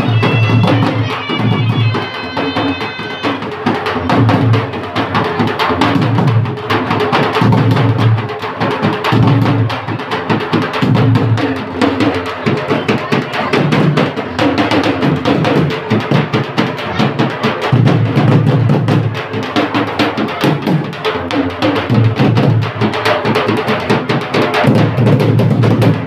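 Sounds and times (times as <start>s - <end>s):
drums beaten fast: 0.0s - 26.0s.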